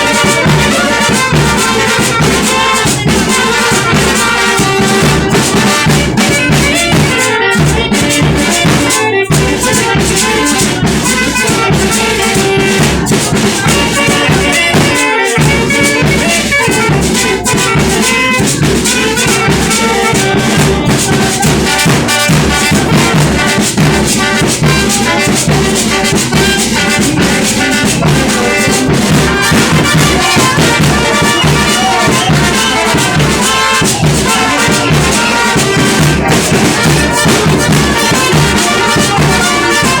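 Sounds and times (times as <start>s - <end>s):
brass band music: 0.0s - 40.0s
steady drum beat: 0.0s - 40.0s.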